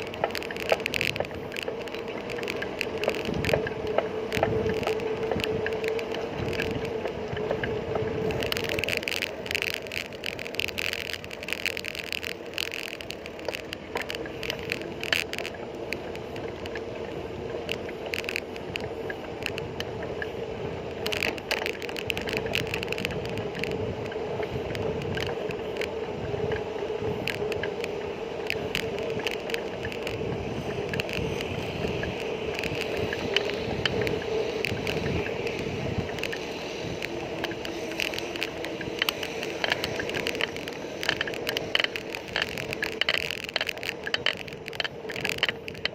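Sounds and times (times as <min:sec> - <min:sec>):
bicycle clicks and rattles: 0:00.0 - 0:45.9
bicycle road hum and rumble: 0:00.0 - 0:45.9.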